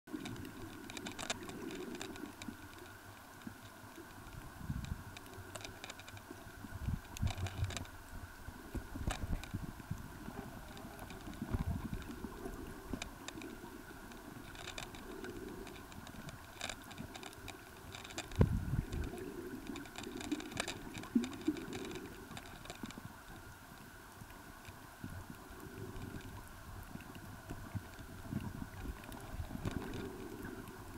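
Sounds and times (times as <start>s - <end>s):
underwater clicks and crackles: 0.1s - 30.9s.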